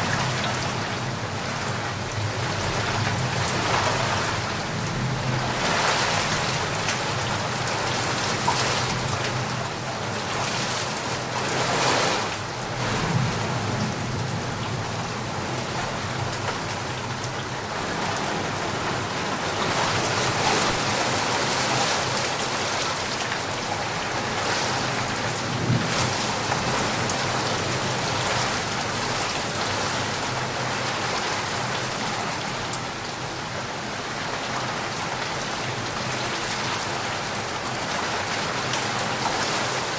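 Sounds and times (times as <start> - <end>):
rain pouring: 0.0 - 39.9.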